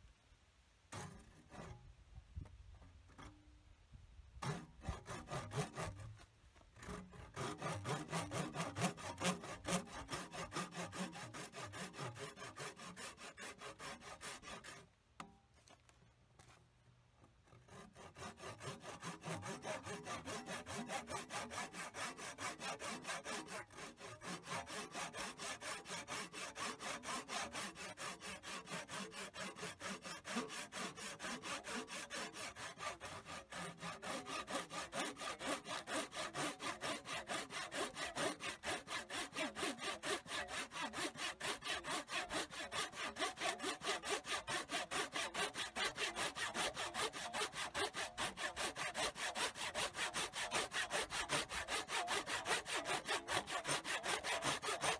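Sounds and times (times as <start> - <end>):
hand tool rasping: 4.4 - 14.9, 17.4 - 54.9.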